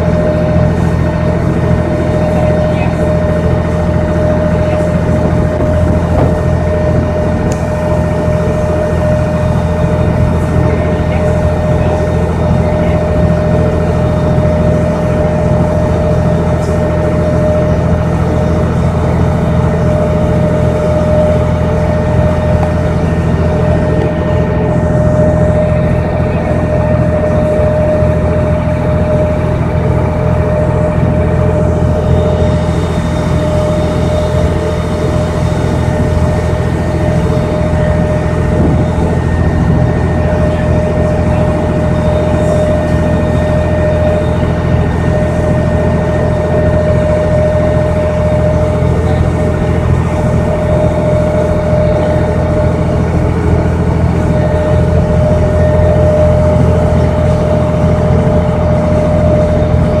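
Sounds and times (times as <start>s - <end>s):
boat engine droning: 0.0s - 60.0s
steady whining tone: 0.0s - 60.0s.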